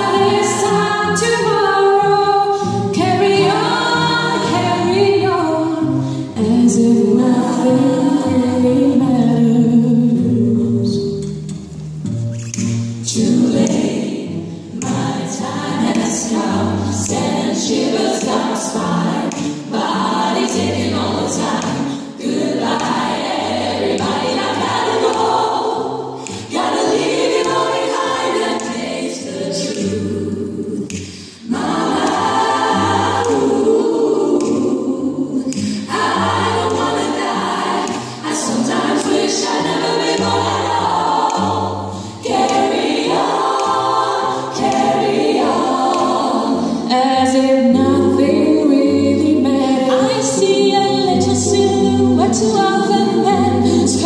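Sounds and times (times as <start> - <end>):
women singing in close harmony: 0.0 - 11.2, 13.0 - 54.0.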